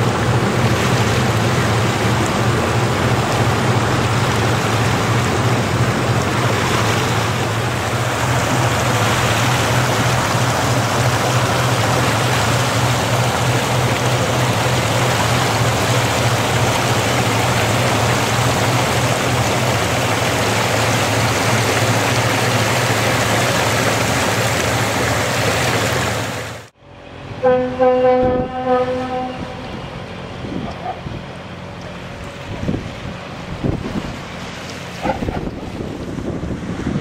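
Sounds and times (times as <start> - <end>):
boat engine drone: 0.0 - 37.0
churning water rushing: 0.0 - 37.0.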